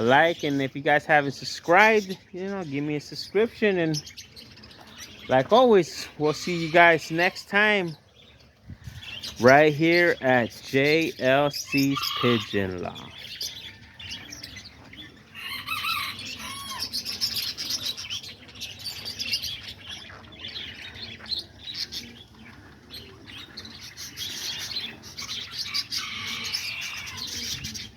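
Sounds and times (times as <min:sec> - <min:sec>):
parrots chirping and chattering: 0:00.0 - 0:27.9.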